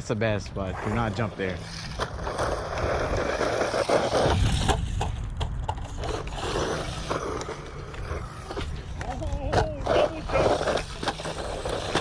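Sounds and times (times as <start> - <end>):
small electric motors whirring: 0.7 - 12.0.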